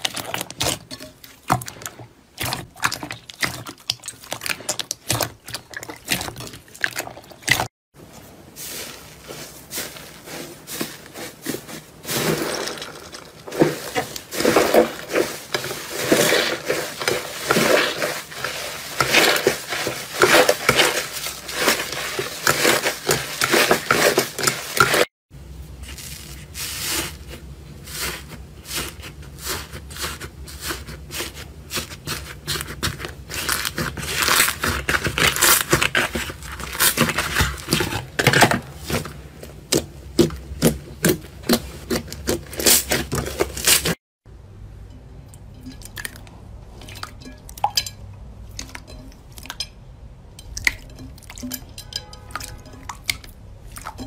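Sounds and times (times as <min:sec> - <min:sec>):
slime squelching by hand: 0:00.0 - 0:25.1, 0:25.8 - 0:44.0, 0:50.4 - 0:54.0.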